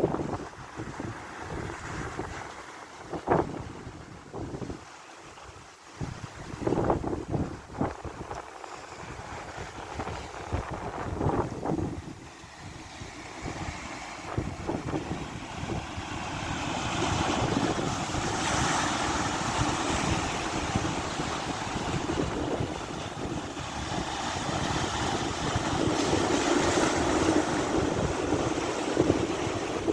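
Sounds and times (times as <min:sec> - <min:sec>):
sea waves and surf: 0:00.0 - 0:29.9
wind buffeting microphone: 0:00.0 - 0:29.9.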